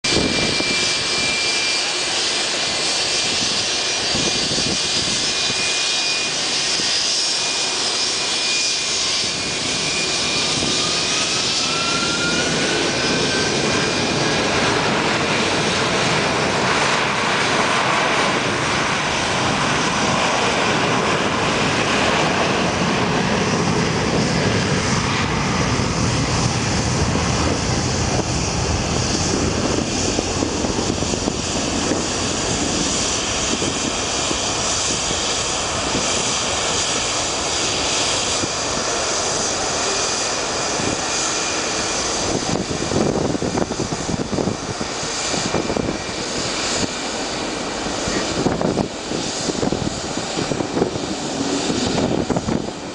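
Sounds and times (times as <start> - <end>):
high jet engine whine: 0.0 - 52.9
jet engines roaring at takeoff: 0.0 - 52.9.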